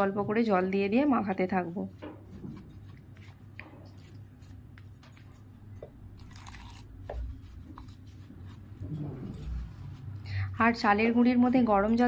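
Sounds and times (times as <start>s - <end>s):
dough squishing: 0.0s - 11.6s
steady low hum: 0.0s - 11.9s.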